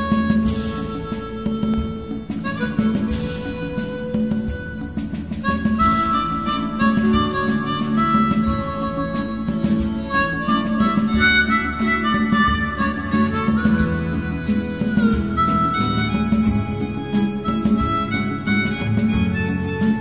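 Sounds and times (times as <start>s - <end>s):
background music with sliding melody: 0.0s - 20.0s.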